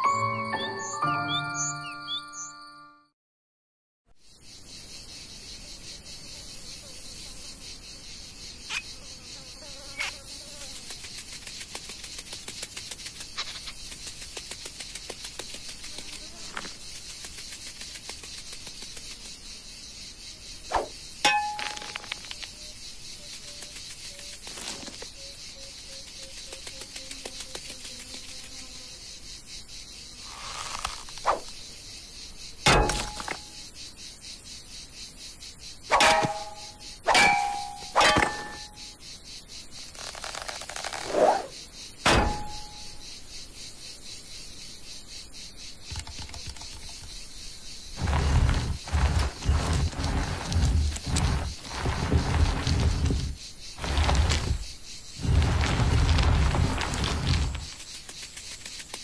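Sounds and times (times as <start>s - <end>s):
insects chirring: 4.2s - 59.0s.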